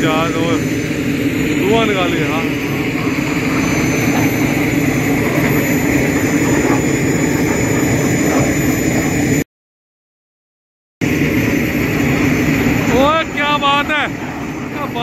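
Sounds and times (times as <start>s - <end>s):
jet engine roar: 0.0s - 9.5s, 11.0s - 15.0s.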